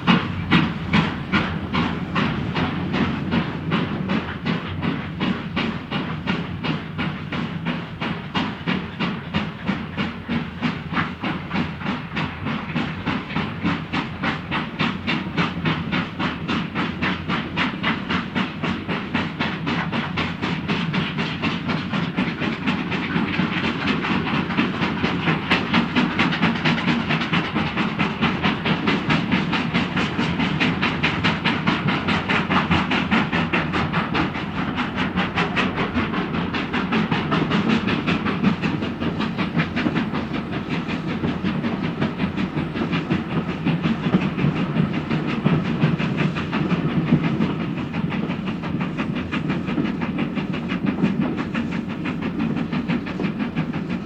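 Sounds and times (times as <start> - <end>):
steam train running: 0.0 - 54.0.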